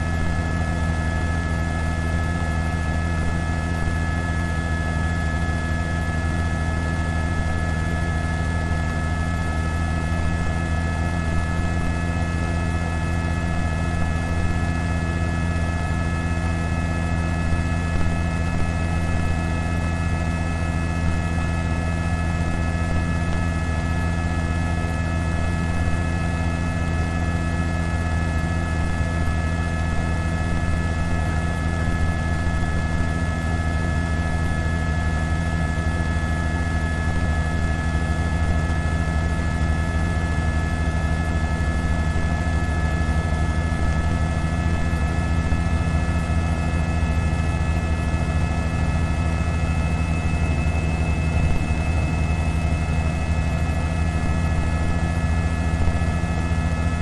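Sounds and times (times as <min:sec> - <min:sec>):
helicopter cabin drone: 0:00.0 - 0:57.0.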